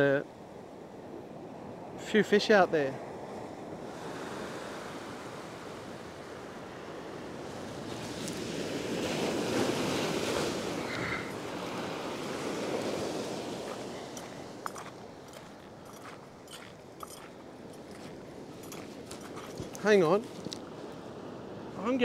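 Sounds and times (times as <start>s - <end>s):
ocean surf breaking over rocks: 0.0s - 22.0s.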